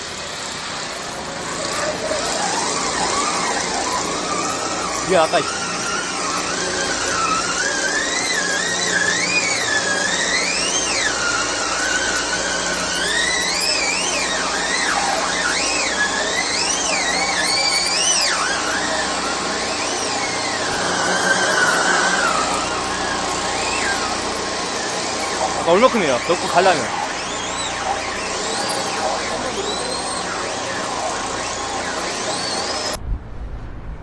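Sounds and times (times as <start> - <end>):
cordless drill motor whining: 0.0 - 33.0.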